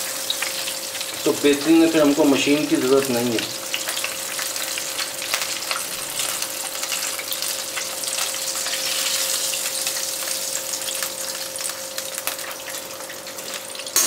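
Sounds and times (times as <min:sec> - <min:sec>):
hot oil sizzling and crackling: 0:00.0 - 0:14.0.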